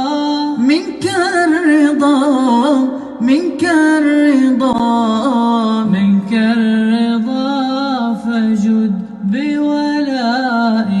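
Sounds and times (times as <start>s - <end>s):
man singing melismatic melody: 0.0s - 11.0s.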